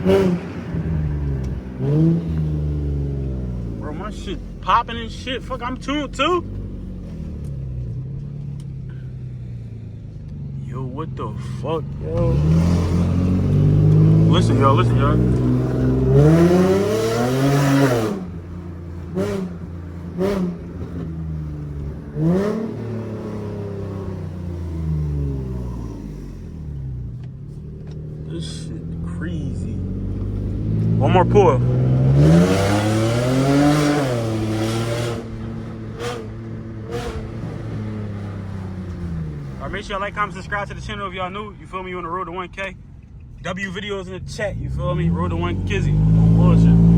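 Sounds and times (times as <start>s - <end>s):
car engine revving and idling: 0.0s - 46.9s.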